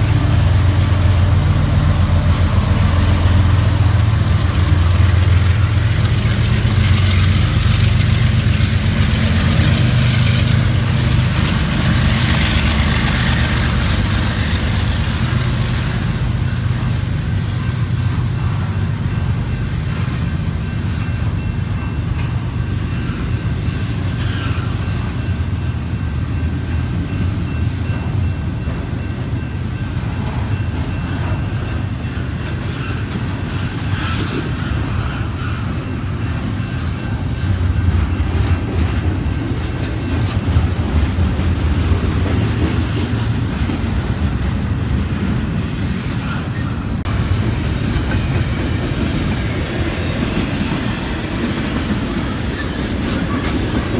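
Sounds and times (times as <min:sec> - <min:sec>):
diesel locomotive engine hum: 0:00.0 - 0:53.9
train cars rumbling on rails: 0:00.0 - 0:53.9.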